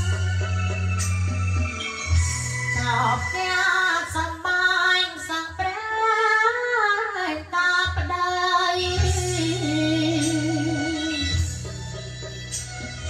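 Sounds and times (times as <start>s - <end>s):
backing track with bass and beat: 0.0s - 6.5s, 7.4s - 13.0s.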